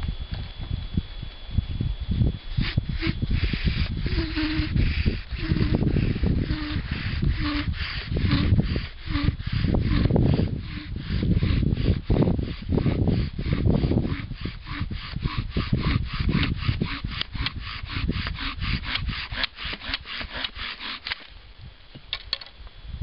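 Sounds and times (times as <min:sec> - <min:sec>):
low rumbling: 0:00.0 - 0:21.9
bow drill rasping: 0:01.7 - 0:22.5.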